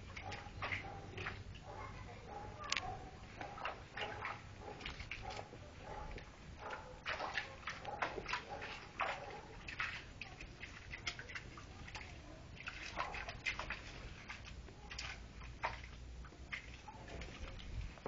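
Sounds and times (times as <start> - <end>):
dog paws splashing in water: 0.0 - 18.0.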